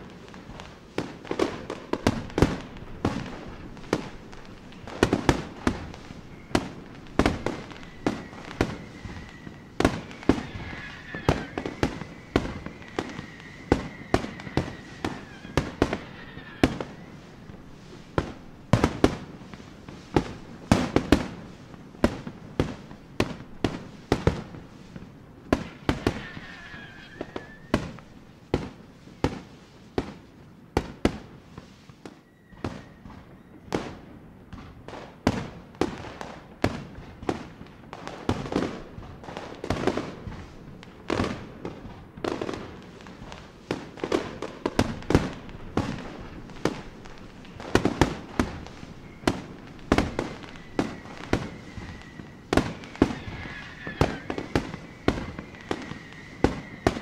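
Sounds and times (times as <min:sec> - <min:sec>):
faint firework whistling: 0:00.0 - 0:57.0
fireworks bursting: 0:00.0 - 0:57.0.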